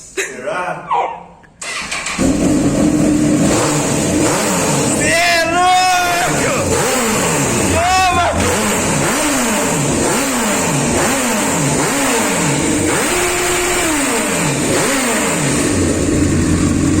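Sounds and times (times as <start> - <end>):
motorcycle engine revving: 1.6 - 17.0.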